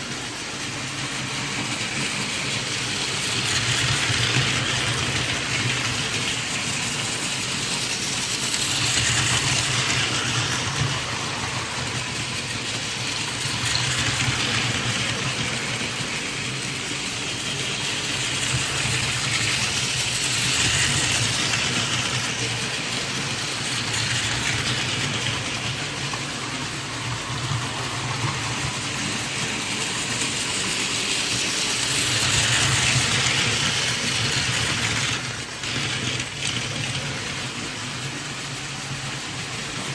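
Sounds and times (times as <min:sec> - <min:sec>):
toy trains whirring on plastic track: 0:00.0 - 0:39.9.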